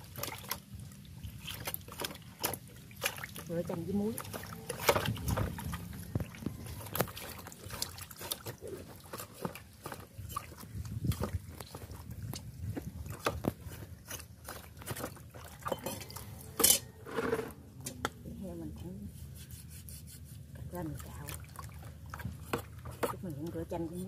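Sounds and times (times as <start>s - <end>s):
wet squelching and sloshing: 0.0s - 16.6s, 18.8s - 24.0s.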